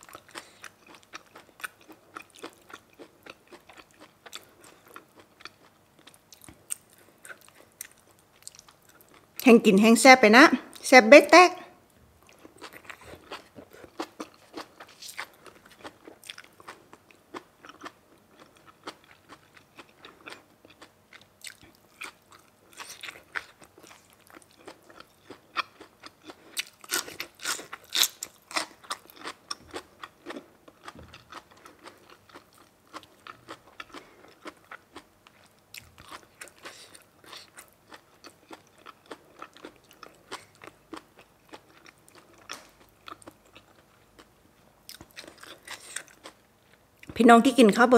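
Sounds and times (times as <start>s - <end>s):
person chewing and crunching food: 0.0s - 9.4s, 12.2s - 47.1s.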